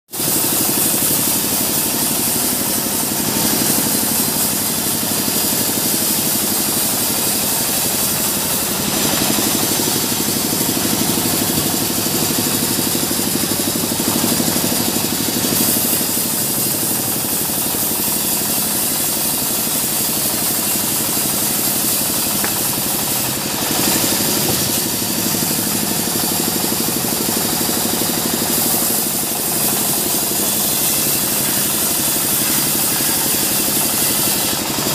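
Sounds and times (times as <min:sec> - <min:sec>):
band saw cutting log: 0:00.1 - 0:34.9.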